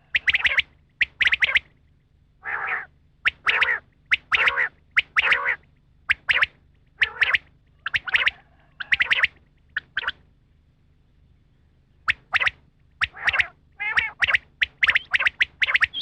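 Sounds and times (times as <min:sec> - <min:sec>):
quail calling: 0:00.0 - 0:01.8, 0:02.4 - 0:10.2, 0:12.1 - 0:16.0.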